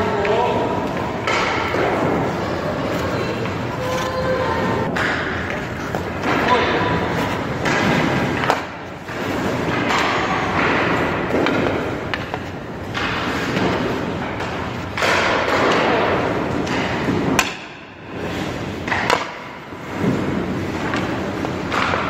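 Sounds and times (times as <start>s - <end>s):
skate blades scraping ice: 1.3s - 15.7s, 18.1s - 22.0s.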